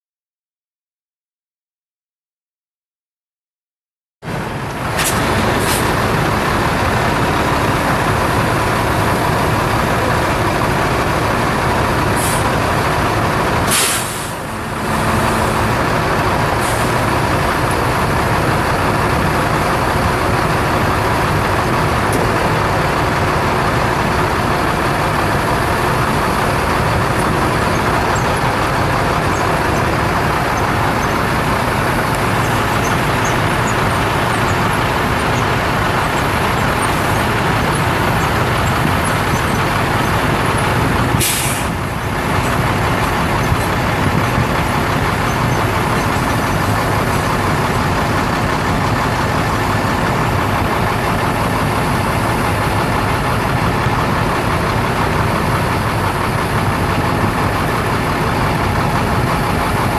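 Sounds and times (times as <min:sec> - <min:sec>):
diesel truck engine running: 0:04.2 - 0:59.9.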